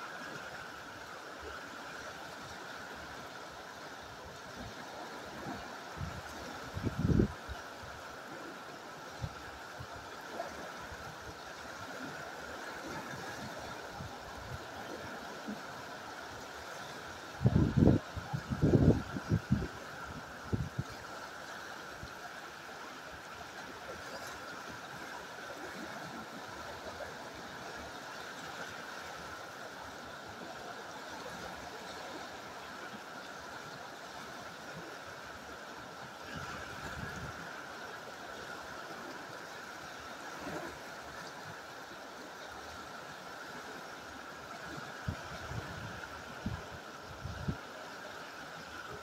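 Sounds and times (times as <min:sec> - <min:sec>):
river water rushing over rocks: 0:00.0 - 0:49.0.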